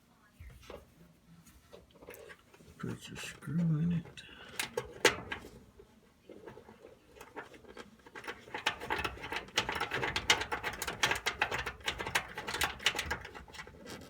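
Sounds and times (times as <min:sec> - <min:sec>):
metal clicks and scrapes: 0:01.7 - 0:14.0.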